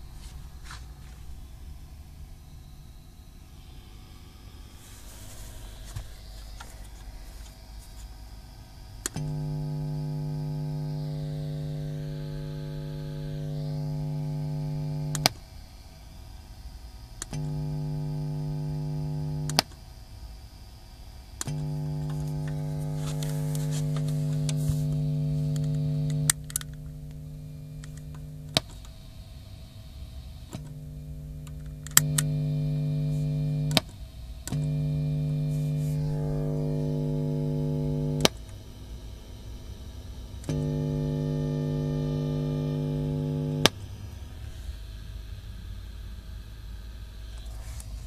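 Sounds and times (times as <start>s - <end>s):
guitar amp hum and hiss: 0.0s - 48.0s.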